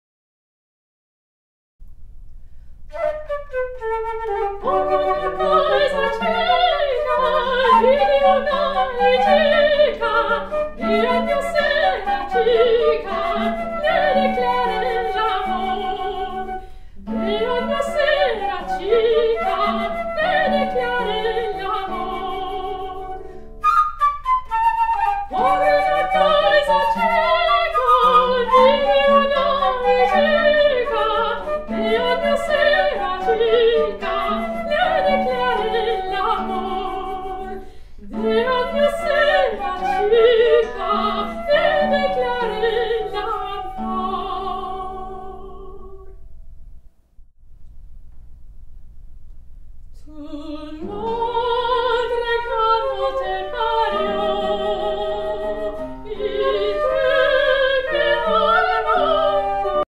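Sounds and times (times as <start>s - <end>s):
flute: 2.9s - 46.2s, 50.2s - 59.9s
soprano singing: 2.9s - 46.3s, 50.0s - 59.9s
classical guitar: 2.9s - 46.6s, 49.9s - 59.9s.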